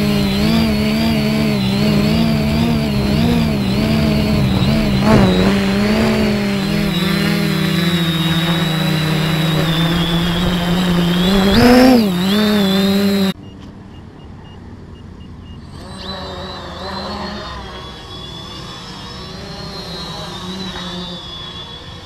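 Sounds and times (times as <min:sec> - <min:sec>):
drone motors humming: 0:00.0 - 0:13.4, 0:15.6 - 0:22.0.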